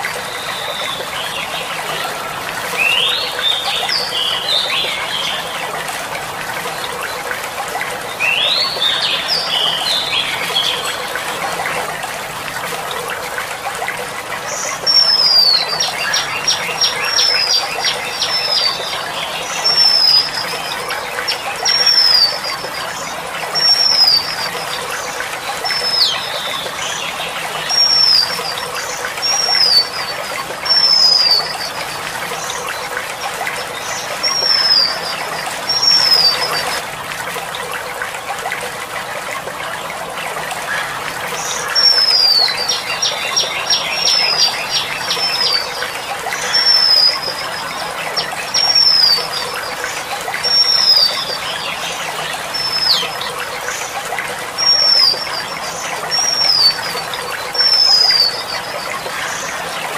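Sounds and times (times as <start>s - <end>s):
trickle of running water: 0.0s - 59.9s.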